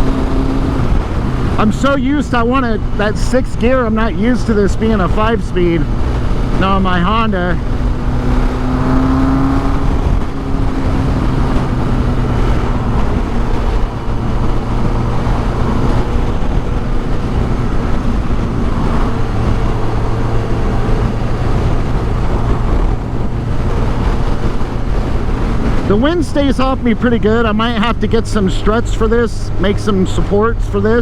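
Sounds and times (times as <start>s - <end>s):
motorcycle engine running: 0.0s - 31.0s
wind and road noise: 0.0s - 31.0s.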